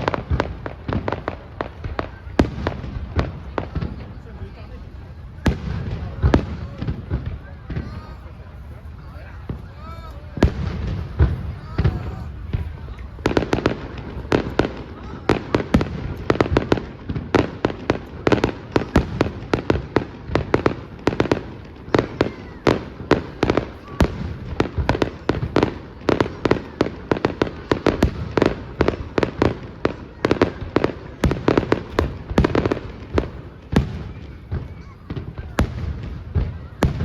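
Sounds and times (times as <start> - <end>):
fireworks bangs: 0.0 - 37.0.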